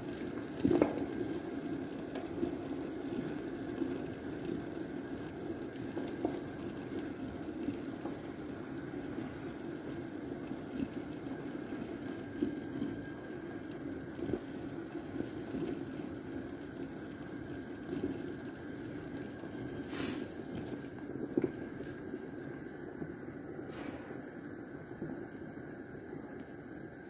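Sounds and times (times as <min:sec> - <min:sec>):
pot simmering with small pops: 0:00.0 - 0:27.0.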